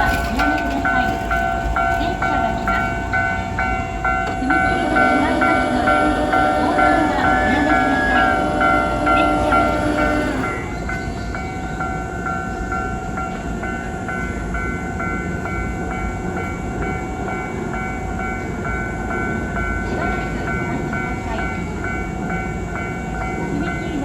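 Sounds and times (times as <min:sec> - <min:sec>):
level-crossing warning bell: 0:00.0 - 0:24.0
train rumbling past: 0:00.0 - 0:24.0.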